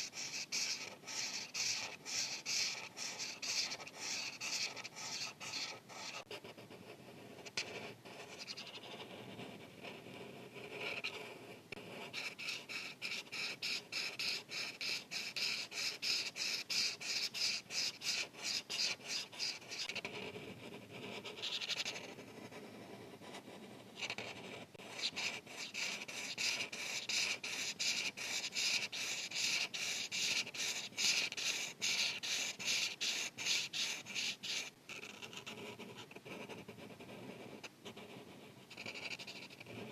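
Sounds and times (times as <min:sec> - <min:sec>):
marker scratching on paper: 0:00.0 - 0:39.9.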